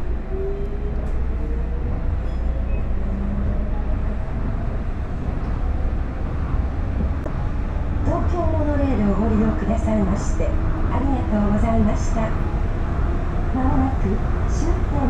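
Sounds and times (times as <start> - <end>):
monorail car rumbling: 0.0 - 15.0.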